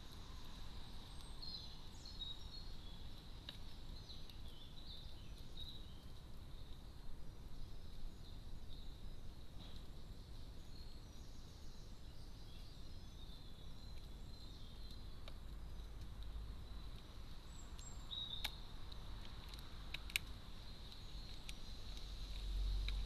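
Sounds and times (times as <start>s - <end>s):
faint outdoor background: 0.0s - 23.0s.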